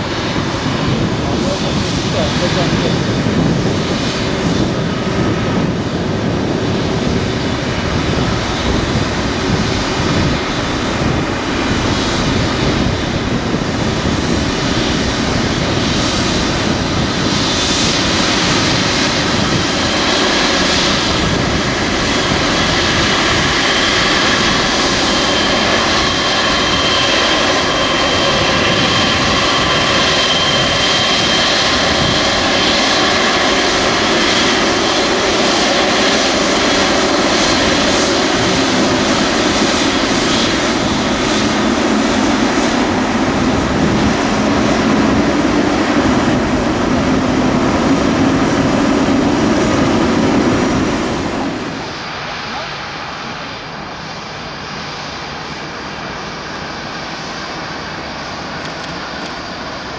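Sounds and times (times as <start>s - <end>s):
jet engines at low power: 0.0s - 59.9s.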